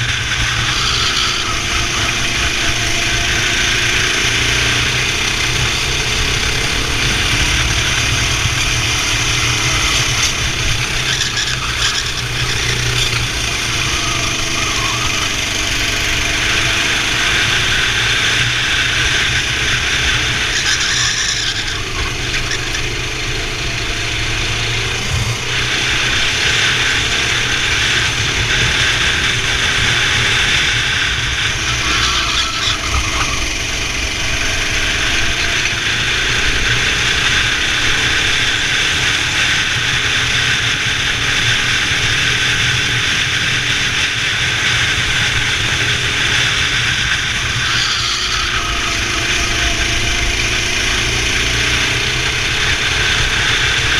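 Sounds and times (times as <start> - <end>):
kart engine revving: 0.0 - 53.9.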